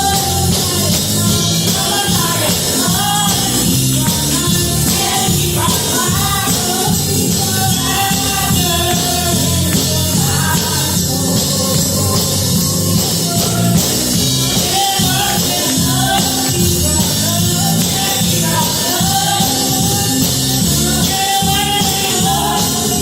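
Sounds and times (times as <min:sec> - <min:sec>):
band playing: 0:00.0 - 0:23.0
person singing: 0:00.0 - 0:23.0.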